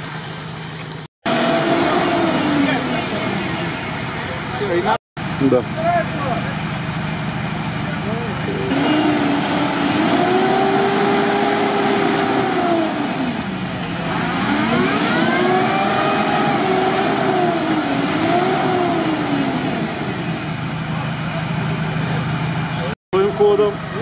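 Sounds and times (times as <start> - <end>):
vehicle churning through muddy water: 0.0 - 24.0
engine revving under load: 1.2 - 5.6, 6.7 - 24.0.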